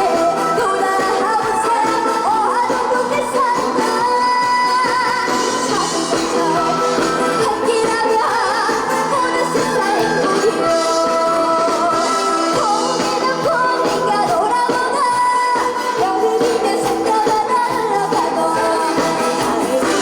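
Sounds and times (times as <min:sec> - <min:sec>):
band backing track: 0:00.0 - 0:20.0
girl singing with vibrato: 0:00.0 - 0:20.0.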